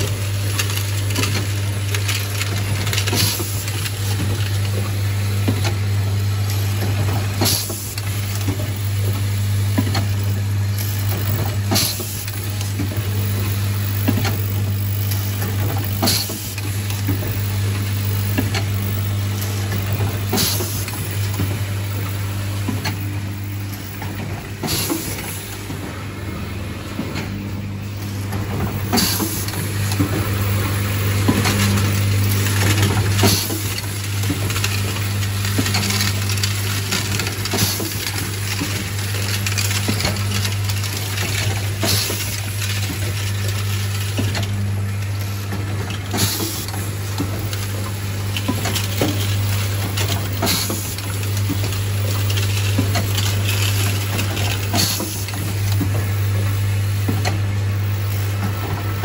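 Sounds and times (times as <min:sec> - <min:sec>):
assembly machine hum: 0:00.0 - 0:59.0.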